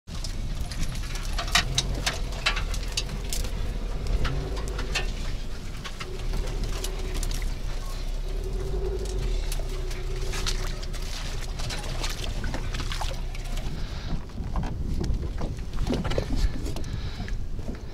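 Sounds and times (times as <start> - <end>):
steady low rumble: 0.1 - 17.9.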